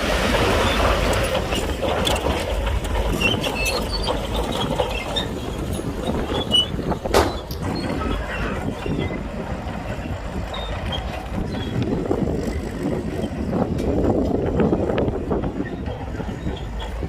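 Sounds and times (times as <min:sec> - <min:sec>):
bulldozer diesel engine rumbling: 0:00.0 - 0:17.0
steel tracks clanking and squeaking: 0:00.0 - 0:17.0.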